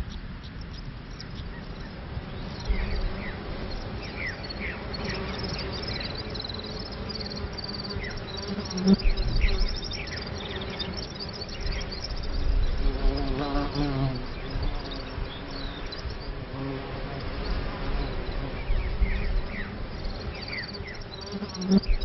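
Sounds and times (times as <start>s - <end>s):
insect chirps and trills: 0.0s - 22.0s
insects buzzing: 0.0s - 22.0s.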